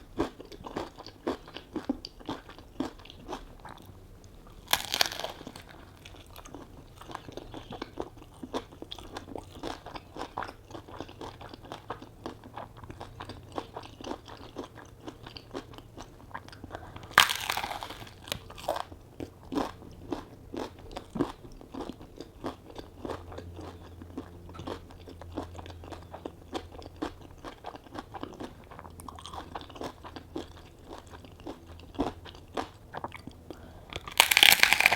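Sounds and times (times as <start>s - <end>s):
chewing crunchy food: 0.0s - 34.9s.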